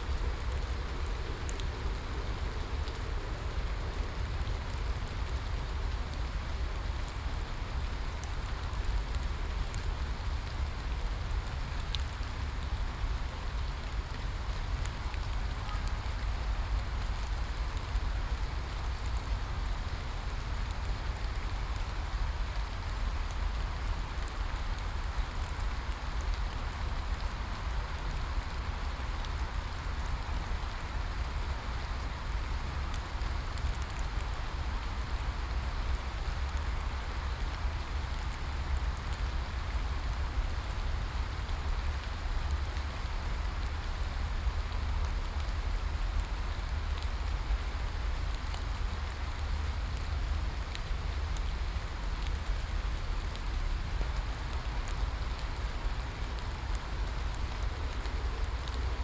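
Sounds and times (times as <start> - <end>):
faint ticks of raindrops: 0.0 - 59.0
steady rain hiss: 0.0 - 59.0.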